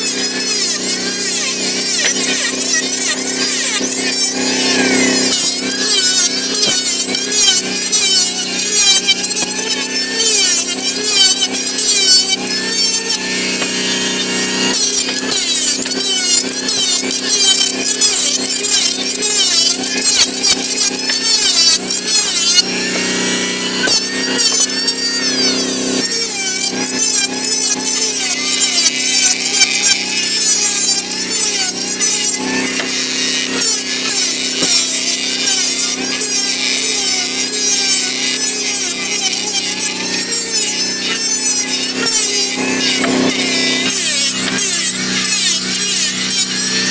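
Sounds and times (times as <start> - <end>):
electric planer shaving wood: 0.0 - 46.9.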